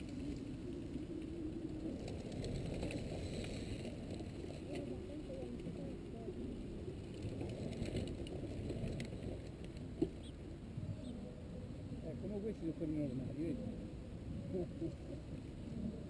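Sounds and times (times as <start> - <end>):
low rumble of bikes on dirt: 0.0 - 16.0.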